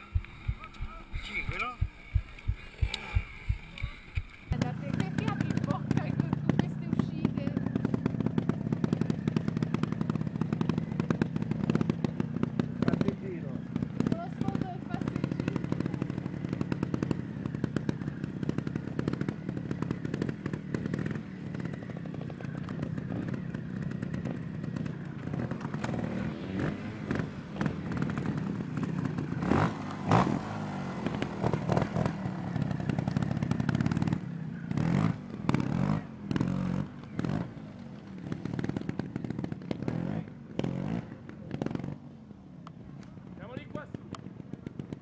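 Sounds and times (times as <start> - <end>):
motorcycle engine running: 0.0 - 45.0
motorcycle throttle blips: 0.0 - 45.0.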